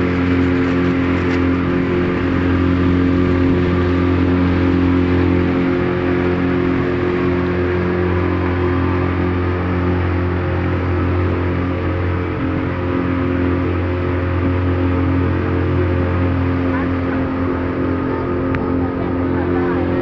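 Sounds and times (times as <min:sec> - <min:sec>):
motorboat engine drone: 0:00.0 - 0:20.0.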